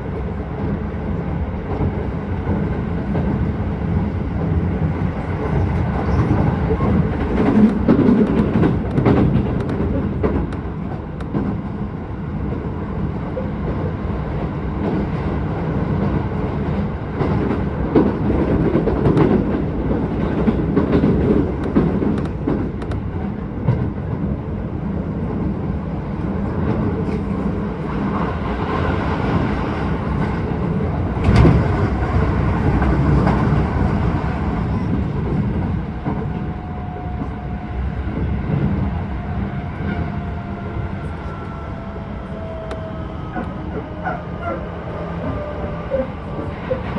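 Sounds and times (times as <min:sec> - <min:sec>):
clickety-clack of rail joints: 0:00.0 - 0:46.9
train wheels rumbling on rails: 0:00.0 - 0:46.9.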